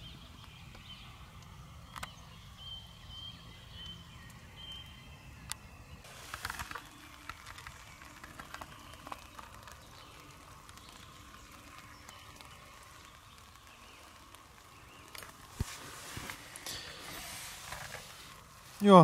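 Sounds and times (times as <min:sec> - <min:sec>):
faint forest night hiss: 0:01.0 - 0:19.0.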